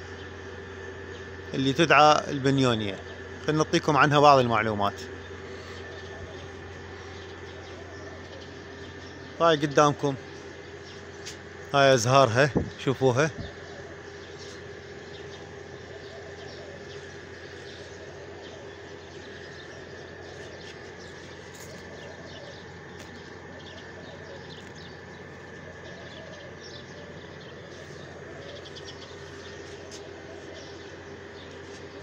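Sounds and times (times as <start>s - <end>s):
small birds chirping: 0.0s - 32.0s
steady background hum: 0.0s - 32.0s.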